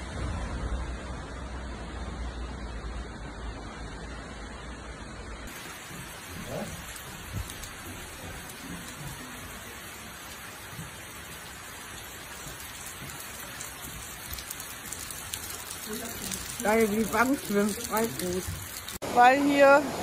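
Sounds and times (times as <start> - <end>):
rain falling on water: 0.0 - 20.0.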